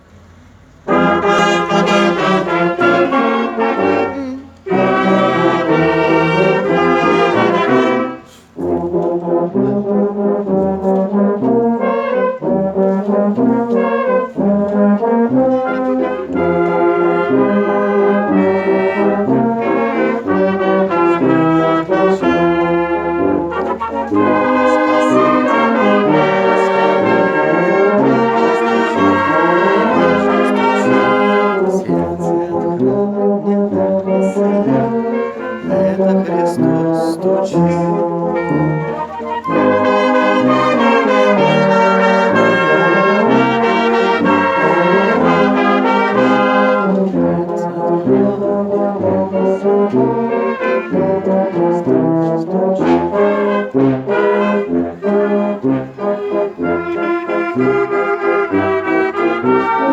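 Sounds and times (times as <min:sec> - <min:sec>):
brass band playing a hymn: 0:00.0 - 0:59.9.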